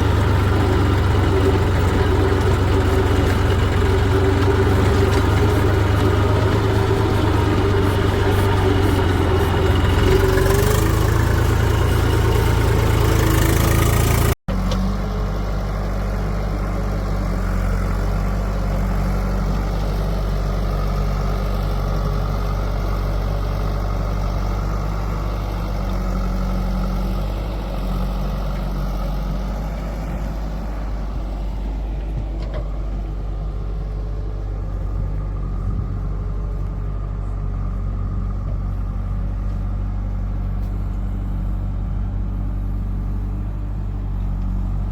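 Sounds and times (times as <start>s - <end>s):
diesel engine running loudly: 0.0s - 44.9s
low engine hum: 0.0s - 44.9s.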